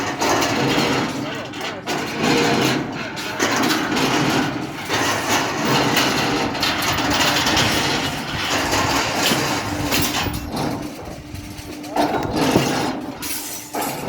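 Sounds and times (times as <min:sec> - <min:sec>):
rebar bending machine running: 0:00.0 - 0:14.0.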